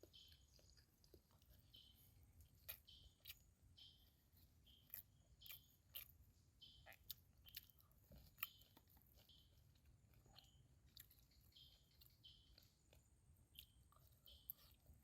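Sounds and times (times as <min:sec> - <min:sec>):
close-up chewing with crisp crunches: 0:00.0 - 0:15.0.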